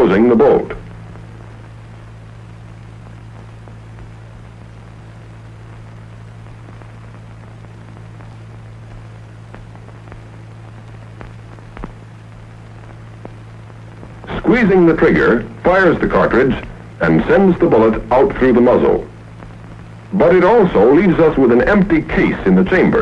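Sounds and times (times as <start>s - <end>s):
film soundtrack hum and hiss: 0.0s - 23.0s.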